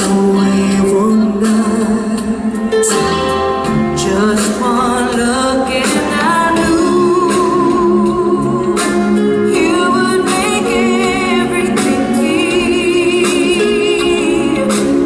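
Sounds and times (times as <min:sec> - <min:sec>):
band accompaniment: 0:00.0 - 0:15.0
person singing with vibrato: 0:00.0 - 0:15.0.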